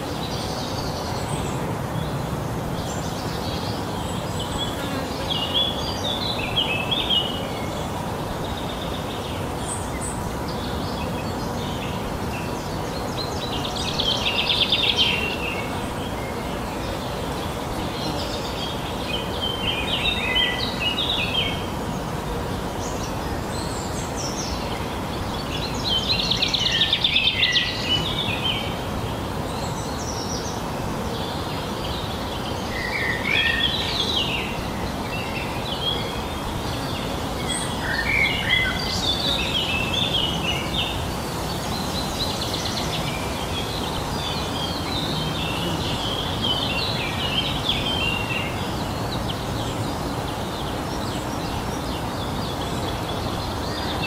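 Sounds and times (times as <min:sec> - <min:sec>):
outdoor background hiss: 0:00.0 - 0:54.0
songbirds singing: 0:00.0 - 0:54.0.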